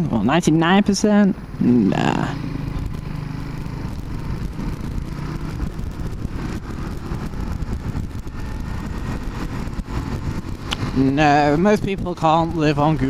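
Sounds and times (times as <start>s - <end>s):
motorcycle engine running: 0.0s - 13.0s
wind rumbling over microphone: 2.3s - 13.0s.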